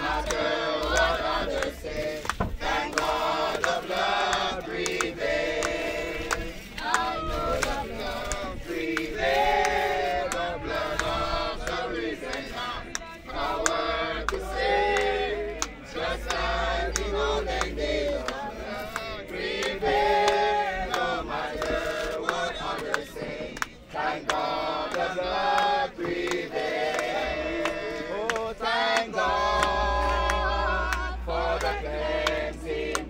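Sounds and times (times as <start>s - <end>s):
congregation singing a hymn: 0.0s - 33.0s.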